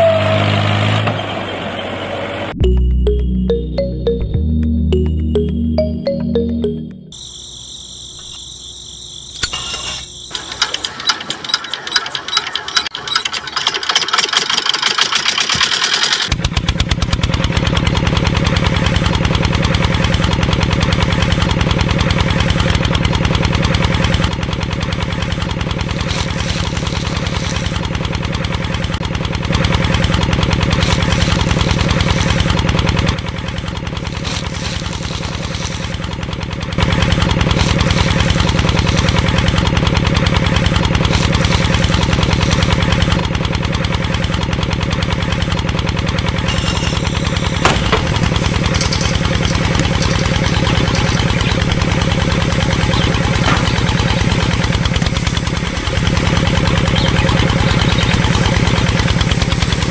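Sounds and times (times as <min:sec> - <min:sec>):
diesel engine knocking: 0:10.5 - 0:59.9.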